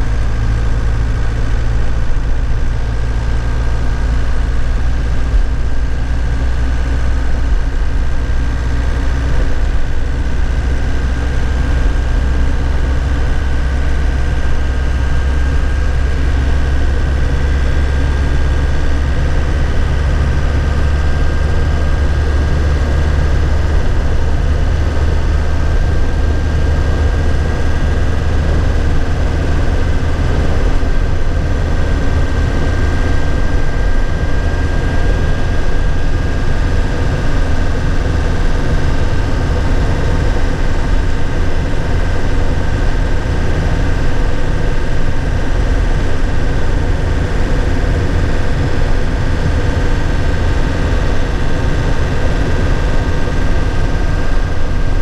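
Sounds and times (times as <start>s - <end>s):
high whine: 0.0s - 55.0s
truck engine drone: 0.0s - 55.0s.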